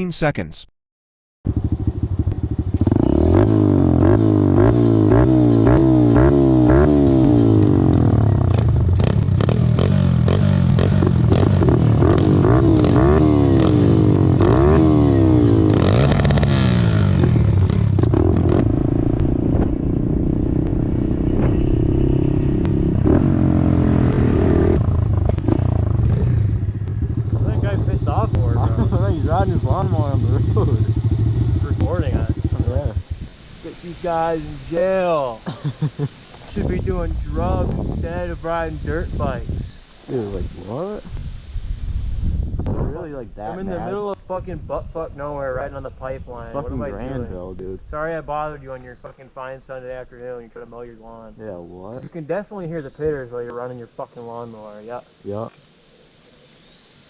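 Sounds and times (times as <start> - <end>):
pit bike engines revving: 1.5 - 41.1, 45.1 - 55.5.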